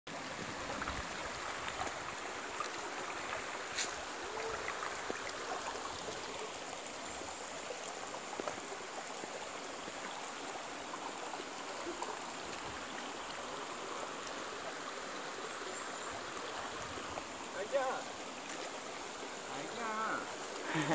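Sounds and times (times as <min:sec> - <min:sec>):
stream flowing over rocks: 0:00.1 - 0:20.9.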